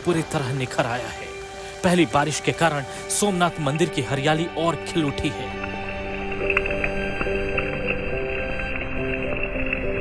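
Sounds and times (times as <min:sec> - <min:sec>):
music with held notes: 0:00.0 - 0:10.0.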